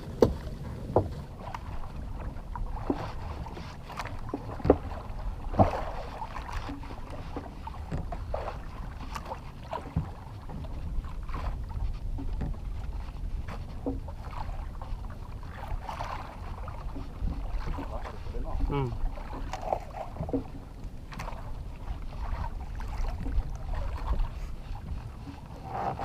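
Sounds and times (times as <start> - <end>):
water around boat: 0.0 - 26.0
wind: 0.0 - 26.0.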